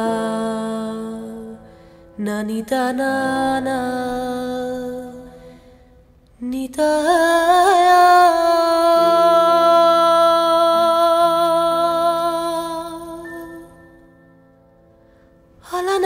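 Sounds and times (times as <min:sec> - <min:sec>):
soft low accompanying notes: 0:00.0 - 0:16.0.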